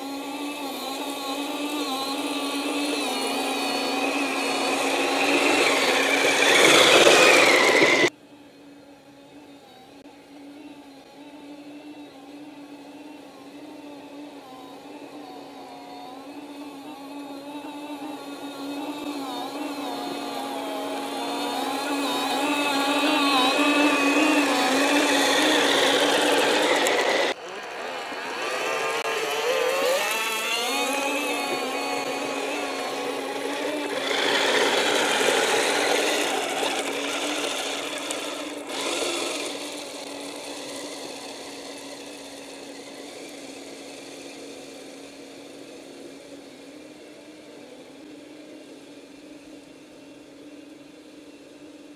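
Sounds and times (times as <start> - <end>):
toy vehicle electric motors whining: 0.0 - 51.9.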